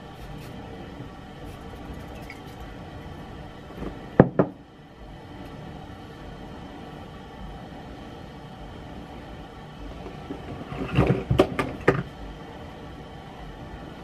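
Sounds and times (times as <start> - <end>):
low room noise: 0.0 - 14.0.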